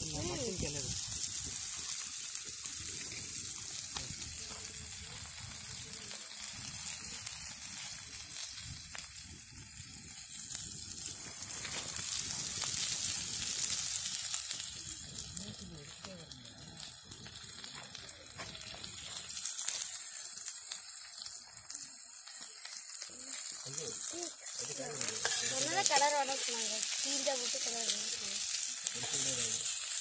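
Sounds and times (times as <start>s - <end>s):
onions sizzling in a pan: 0.0s - 30.0s.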